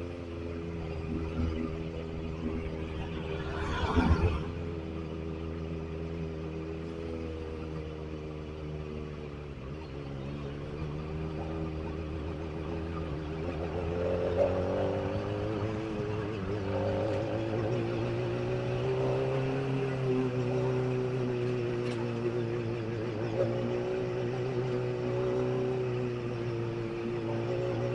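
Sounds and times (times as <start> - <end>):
motorcycle engine running: 0.0 - 3.6, 4.3 - 27.9.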